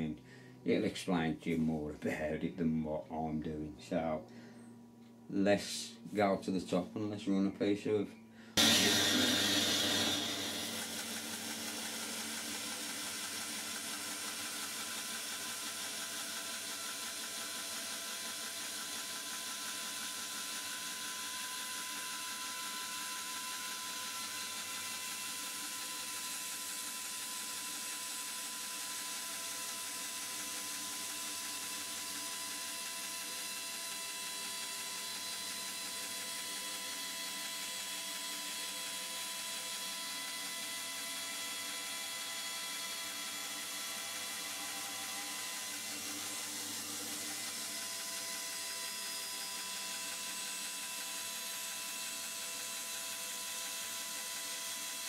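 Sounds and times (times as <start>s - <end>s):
band saw running: 8.6s - 55.0s.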